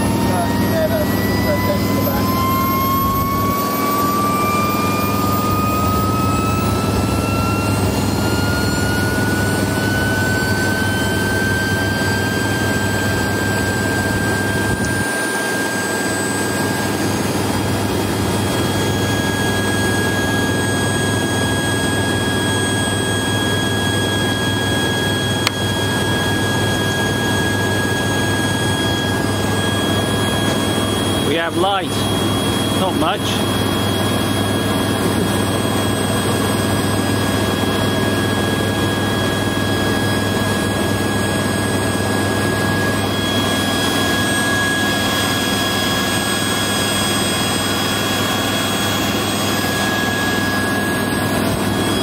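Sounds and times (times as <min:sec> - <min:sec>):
gas turbine whine: 0:00.0 - 0:52.0
steady low hum: 0:00.0 - 0:52.0.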